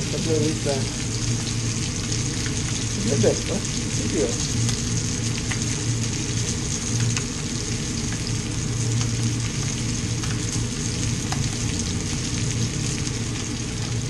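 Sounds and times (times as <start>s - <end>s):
fish fillets sizzling in a pan: 0.0s - 14.0s.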